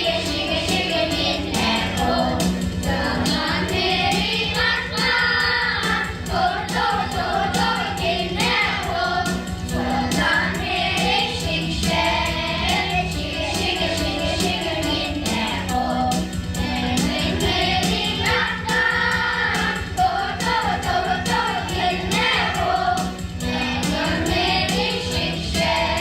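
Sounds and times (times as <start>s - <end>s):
backing track with steady beat: 0.0s - 26.0s
children singing in unison: 0.0s - 26.0s.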